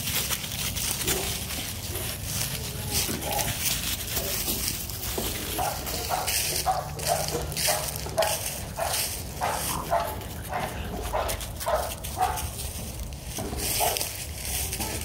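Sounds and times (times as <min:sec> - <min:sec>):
dry leaves crunching and rustling: 0:00.0 - 0:15.0.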